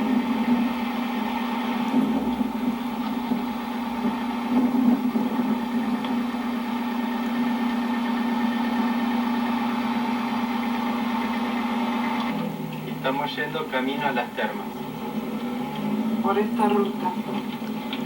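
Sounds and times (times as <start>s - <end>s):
car engine and road drone: 0.0s - 18.0s.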